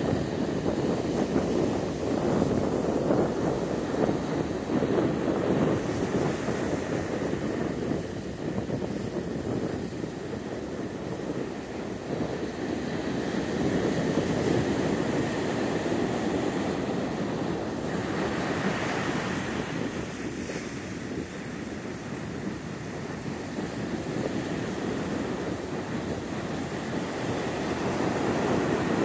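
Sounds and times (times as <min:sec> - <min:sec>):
ocean waves breaking on beach: 0:00.0 - 0:29.0
wind buffeting microphone: 0:00.0 - 0:29.0.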